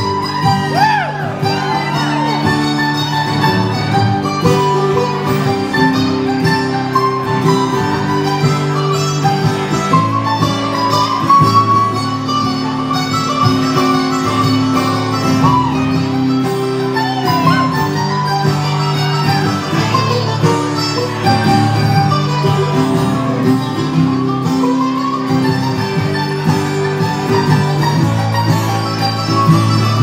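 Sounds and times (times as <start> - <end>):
acoustic guitar strumming: 0.0 - 30.0
plucked string lead with bent notes: 0.0 - 30.0.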